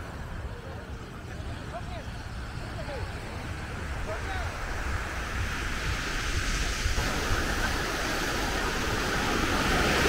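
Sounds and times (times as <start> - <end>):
surf washing onto sandy beach: 0.0 - 10.0.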